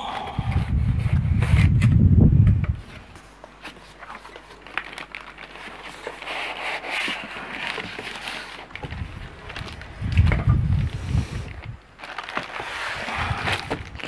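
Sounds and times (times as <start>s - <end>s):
packing foam and plastic rustling: 0.0s - 14.0s.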